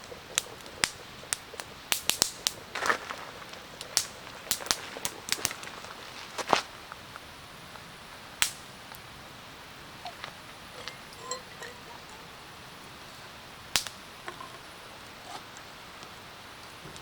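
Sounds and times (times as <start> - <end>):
campfire crackling and popping: 0.0 - 17.0
fire hissing: 0.0 - 17.0.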